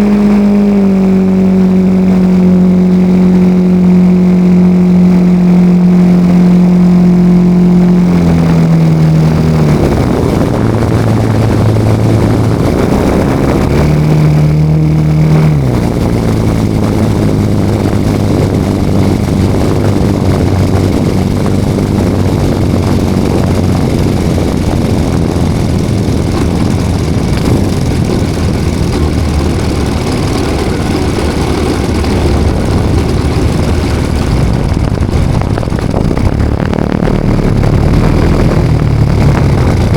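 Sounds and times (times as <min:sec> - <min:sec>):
model plane engine: 0:00.0 - 0:39.9
steady rushing noise: 0:00.0 - 0:39.9.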